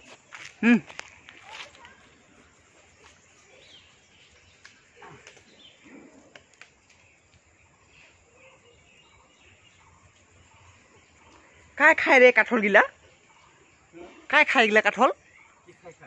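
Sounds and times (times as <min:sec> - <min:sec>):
faint bird chirps: 0:00.4 - 0:16.0.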